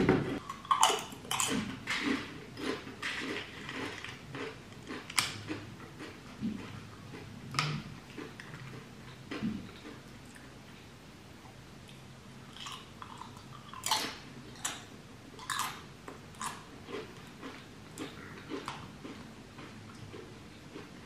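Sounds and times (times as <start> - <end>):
biting and chewing food: 0.0 - 10.5, 11.9 - 21.0.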